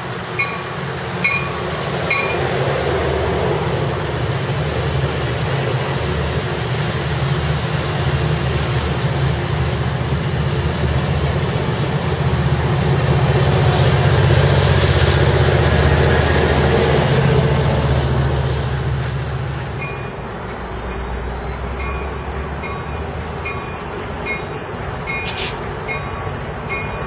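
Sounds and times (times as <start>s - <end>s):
diesel locomotive engine drone: 0.0s - 27.0s
train cars rolling past: 0.0s - 27.0s.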